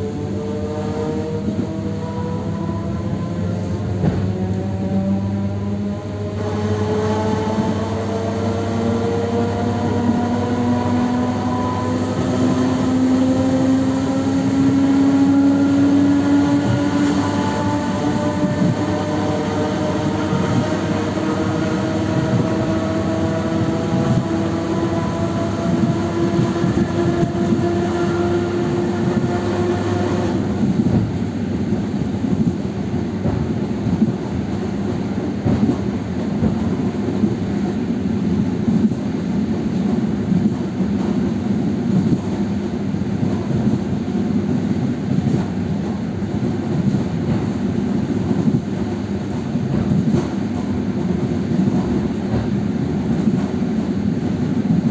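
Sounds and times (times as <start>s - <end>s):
wheels rumbling on rails: 0.0s - 54.9s
train knocks: 1.5s - 6.0s, 9.6s - 39.0s, 43.2s - 54.9s.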